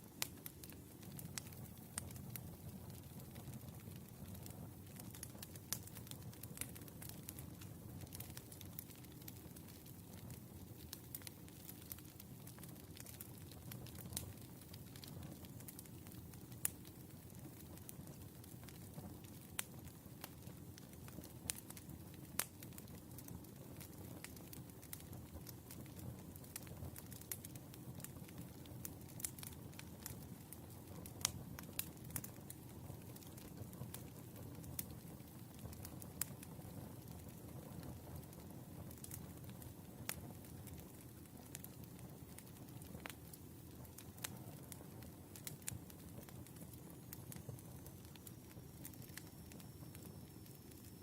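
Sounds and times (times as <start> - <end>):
low rumble of fire: 0.0 - 51.0.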